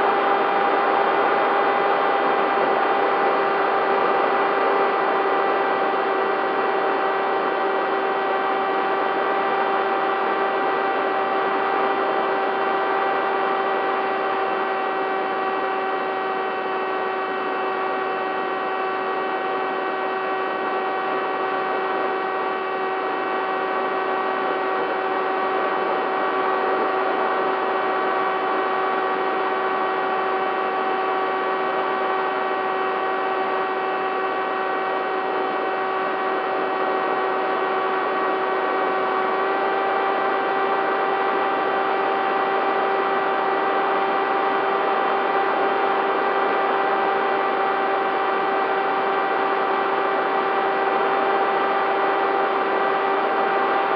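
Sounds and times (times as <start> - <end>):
electric motor whine: 0.1 - 53.9.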